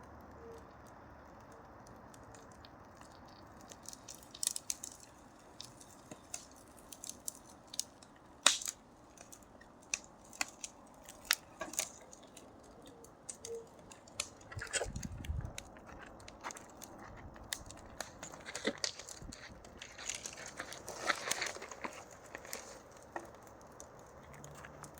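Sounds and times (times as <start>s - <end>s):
fire crackling: 0.0s - 24.9s.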